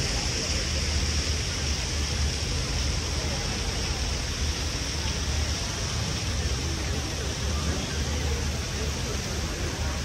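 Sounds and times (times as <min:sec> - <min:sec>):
faint voices of passers-by: 0:00.0 - 0:10.0
rushing street noise: 0:00.0 - 0:10.0.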